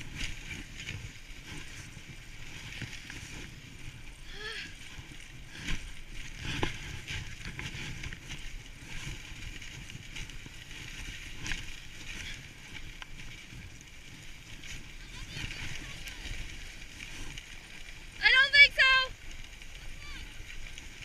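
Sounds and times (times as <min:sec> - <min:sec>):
sled runners hissing on snow: 0:00.0 - 0:21.0.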